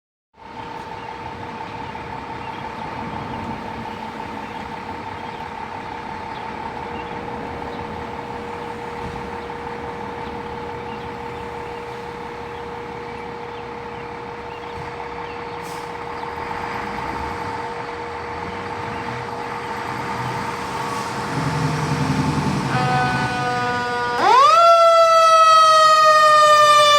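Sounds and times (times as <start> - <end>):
diesel engine running: 0.4 - 24.6.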